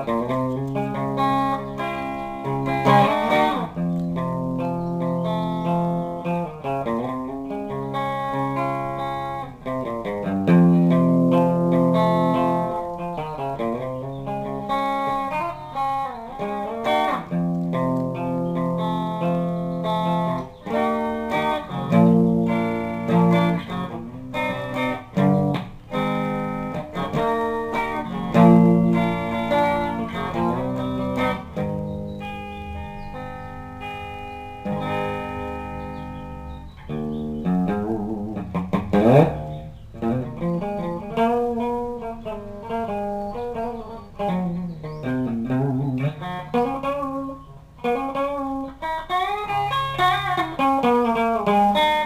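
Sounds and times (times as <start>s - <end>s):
clean electric guitar chords: 0.0s - 52.0s.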